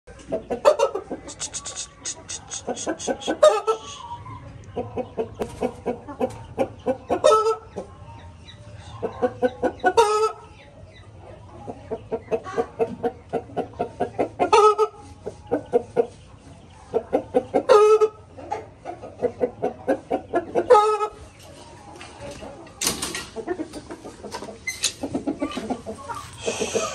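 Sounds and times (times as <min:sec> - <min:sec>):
chickens clucking and squawking: 0:00.1 - 0:26.9.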